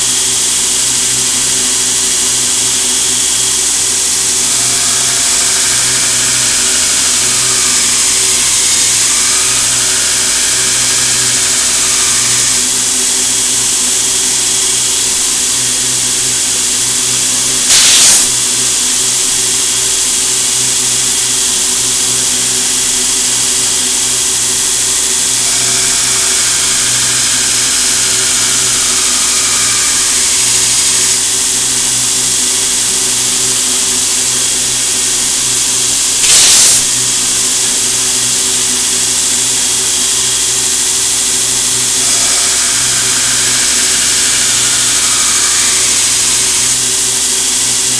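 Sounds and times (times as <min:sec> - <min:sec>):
loud hissing bursts: 0:00.0 - 0:21.5, 0:22.2 - 0:47.9
belt grinder grinding blade: 0:00.0 - 0:47.9.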